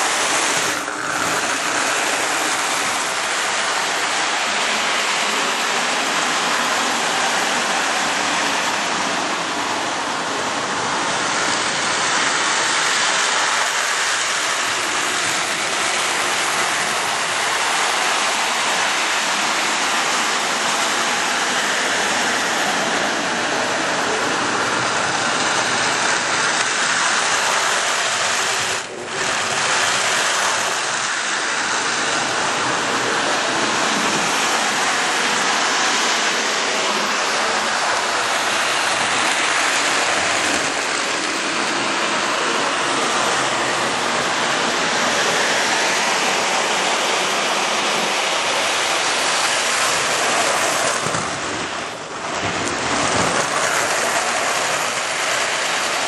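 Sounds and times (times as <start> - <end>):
toy train rumbling on track: 0.0 - 56.0.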